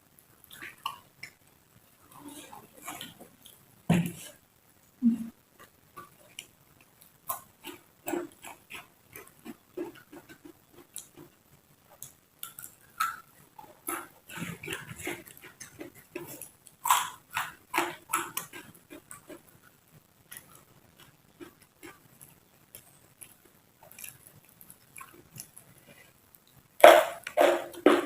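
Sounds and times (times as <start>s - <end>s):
chewing raw vegetables: 2.2s - 4.4s, 5.6s - 11.4s, 12.0s - 28.0s.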